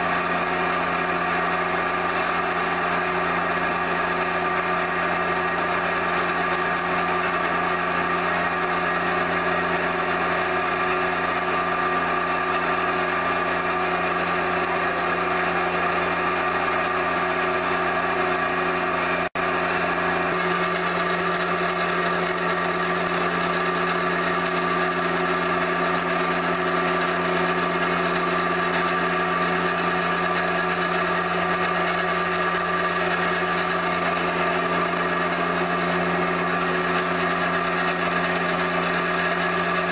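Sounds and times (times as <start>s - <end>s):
electric motor droning: 0.0s - 39.9s.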